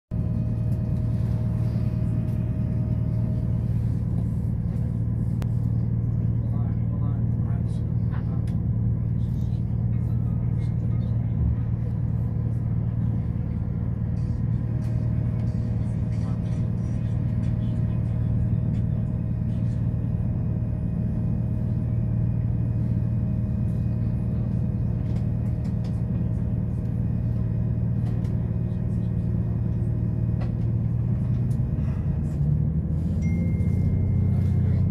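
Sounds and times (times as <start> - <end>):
train running on rails: 0.1 - 34.9.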